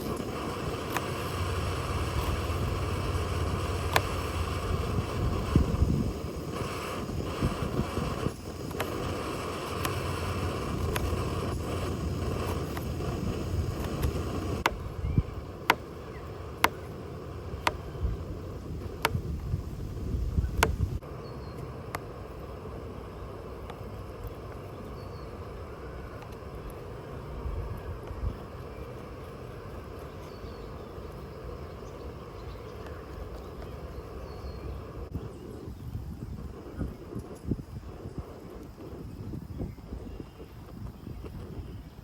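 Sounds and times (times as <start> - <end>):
low wind rumble: 0.0 - 42.0.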